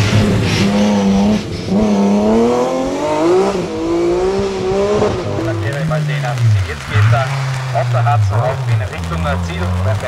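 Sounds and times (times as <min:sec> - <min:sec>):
gear changes: 0:00.0 - 0:10.0
race car accelerating: 0:00.0 - 0:10.0.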